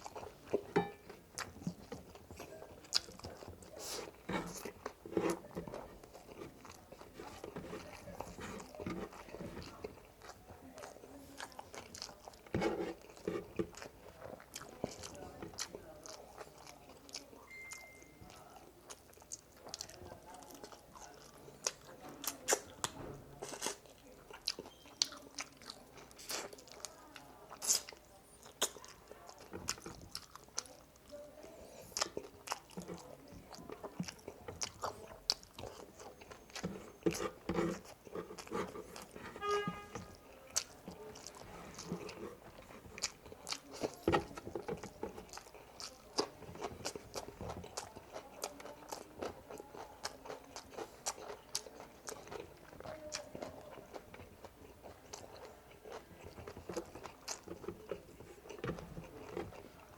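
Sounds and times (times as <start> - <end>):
person chewing crunchily: 0.0 - 17.2, 18.3 - 59.9.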